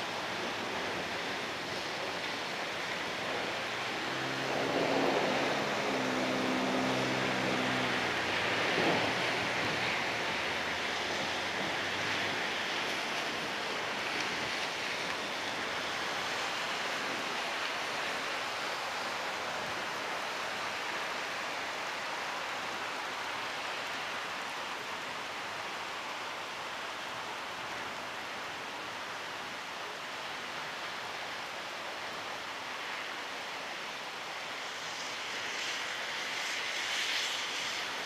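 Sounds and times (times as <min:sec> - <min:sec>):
car tyres swishing on wet road: 0:00.0 - 0:38.0
heavy rain hissing: 0:00.0 - 0:38.0.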